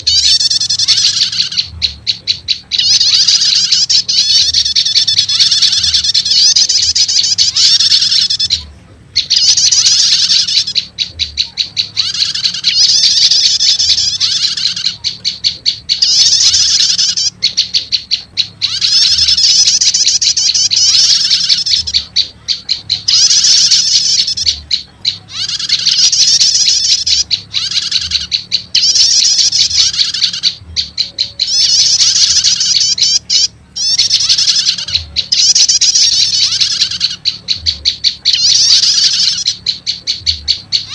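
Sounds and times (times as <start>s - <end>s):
recorded bird chattering trills: 0.0s - 40.9s.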